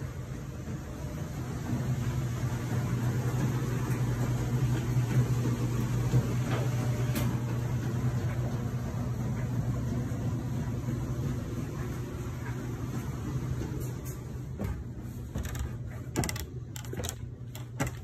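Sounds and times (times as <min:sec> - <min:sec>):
exhaust fan humming: 0:00.0 - 0:18.0.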